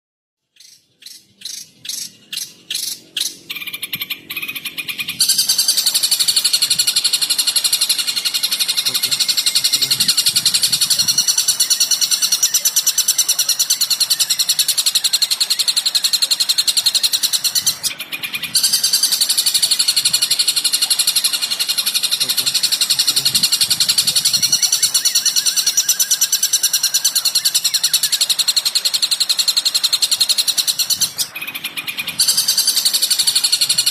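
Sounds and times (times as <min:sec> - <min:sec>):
bird call with rapid trill: 0:00.5 - 0:33.9.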